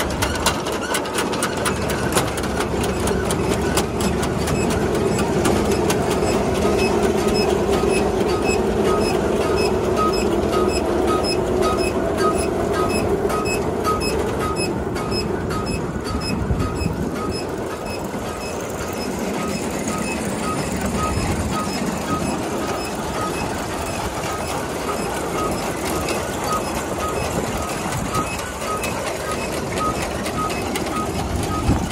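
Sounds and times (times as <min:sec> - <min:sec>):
threshing machine clatter: 0:00.0 - 0:31.9.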